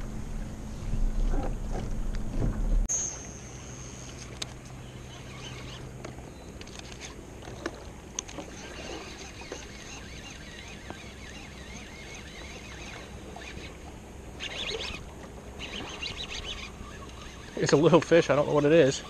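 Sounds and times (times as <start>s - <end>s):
boat motor humming: 0.0s - 19.0s
faint high whine: 2.8s - 19.0s.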